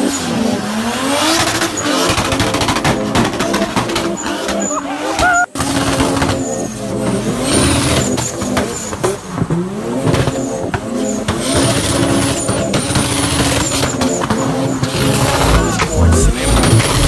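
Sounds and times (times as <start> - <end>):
car engine revving: 0.0 - 4.7, 5.7 - 17.0.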